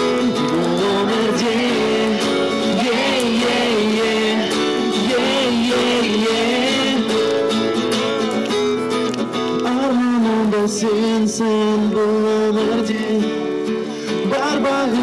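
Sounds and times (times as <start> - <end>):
pop song with guitar: 0.0 - 15.0.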